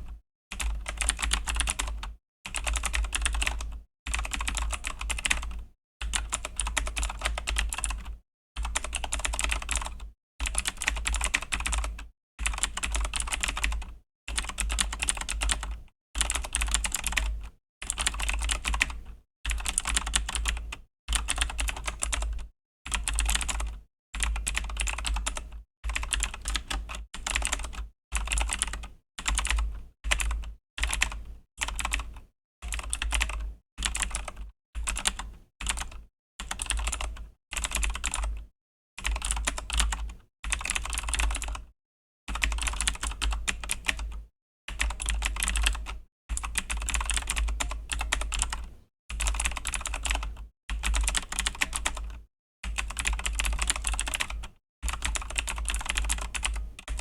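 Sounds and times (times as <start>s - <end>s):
mechanical keyboard typing: 0.5s - 38.4s, 39.0s - 41.6s, 42.3s - 44.1s, 44.7s - 57.0s.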